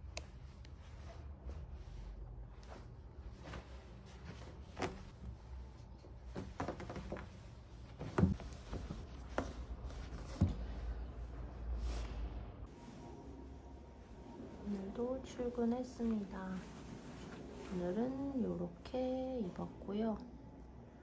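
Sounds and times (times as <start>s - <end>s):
stiff fabric rustling: 0.2s - 19.7s.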